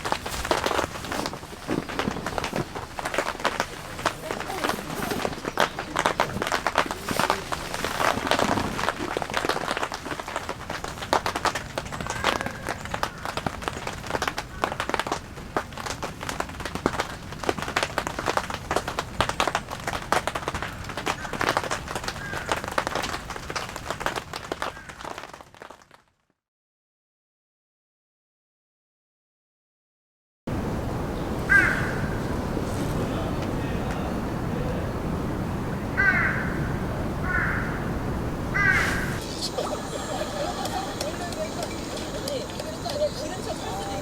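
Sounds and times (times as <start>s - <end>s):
rain falling on a tent: 0.0s - 26.2s, 30.5s - 44.0s.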